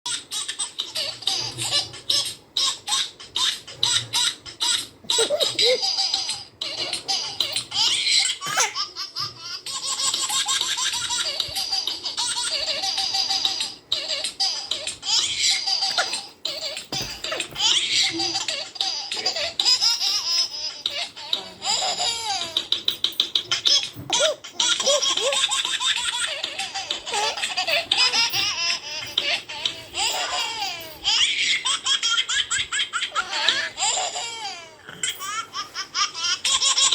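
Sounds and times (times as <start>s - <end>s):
baby laughing: 0.1s - 36.9s.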